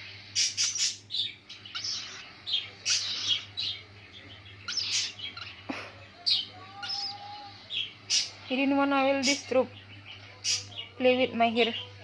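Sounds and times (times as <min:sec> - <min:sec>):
parrot chirping: 0:00.3 - 0:11.0.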